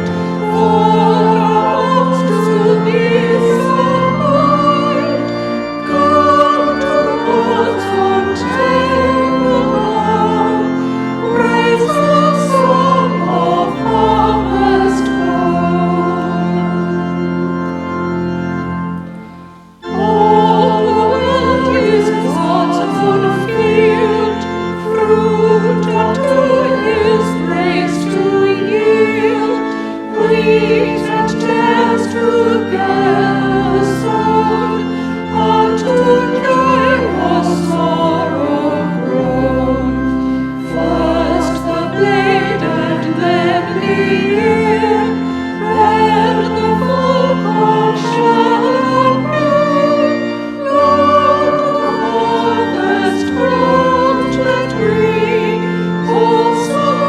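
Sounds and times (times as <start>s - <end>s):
church choir singing a hymn: 0.0s - 57.0s
low organ notes: 0.0s - 57.0s.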